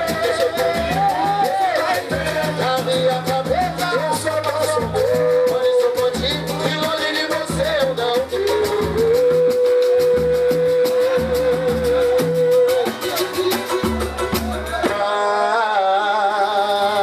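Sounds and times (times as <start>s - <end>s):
fast high percussion: 0.0s - 15.3s
person singing: 0.0s - 17.0s.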